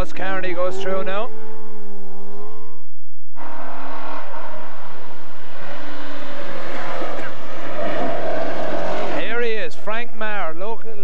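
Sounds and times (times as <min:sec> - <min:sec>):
rally car engine running: 0:00.0 - 0:02.8, 0:03.4 - 0:11.0.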